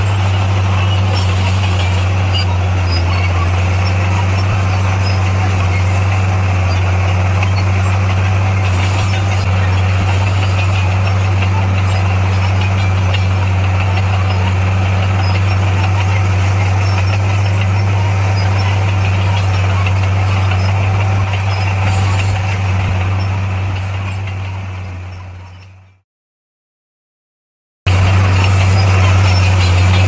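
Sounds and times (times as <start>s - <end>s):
bulldozer diesel engine droning: 0.0s - 26.0s, 27.9s - 30.0s.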